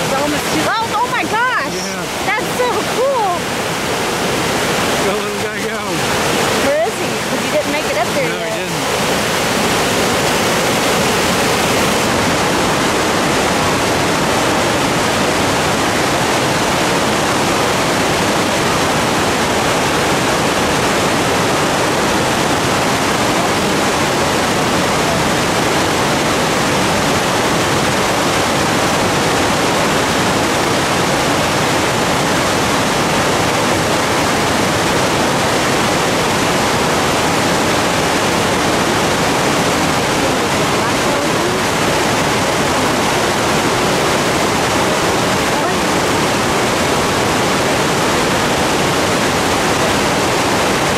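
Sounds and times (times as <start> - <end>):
river rapids rushing: 0.0 - 50.9.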